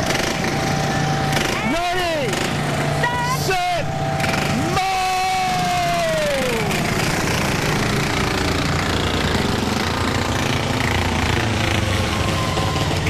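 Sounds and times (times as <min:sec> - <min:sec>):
small engines running at high revs: 0:00.0 - 0:13.0.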